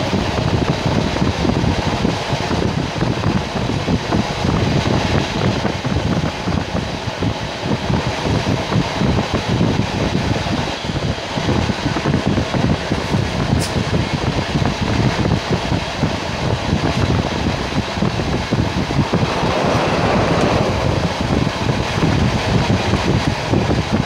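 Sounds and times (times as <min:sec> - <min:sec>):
passenger train rumbling: 0:00.0 - 0:24.0.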